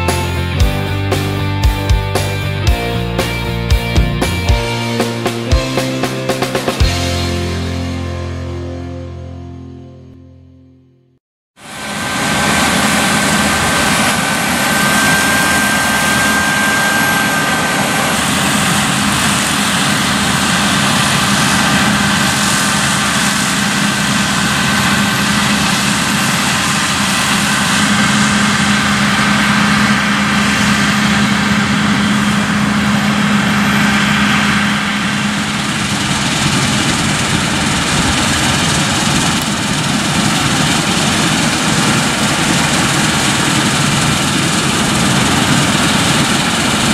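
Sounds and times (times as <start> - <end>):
high machinery whine: 0.0 - 8.7, 11.6 - 46.9
combine harvester drone: 0.0 - 9.3, 11.6 - 46.9.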